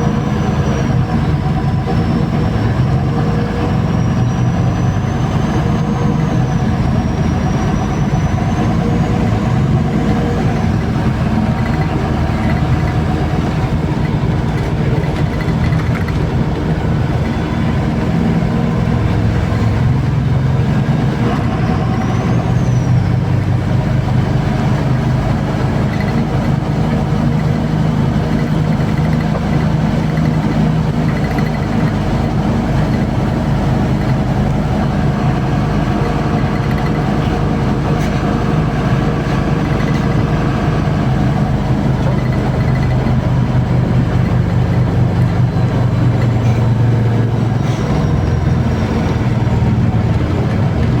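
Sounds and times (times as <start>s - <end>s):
bus engine drone: 0.0s - 51.0s
road noise: 0.0s - 51.0s.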